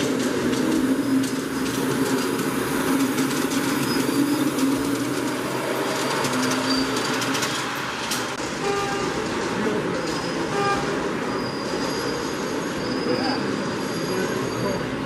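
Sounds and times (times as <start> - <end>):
miniature train rolling on track: 0.0 - 15.0.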